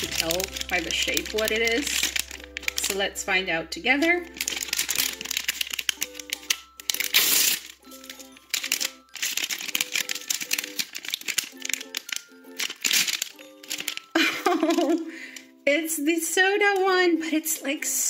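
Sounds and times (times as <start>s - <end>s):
foil bag crinkling and tearing: 0.0s - 3.3s, 4.0s - 15.4s
light background music: 0.0s - 18.0s.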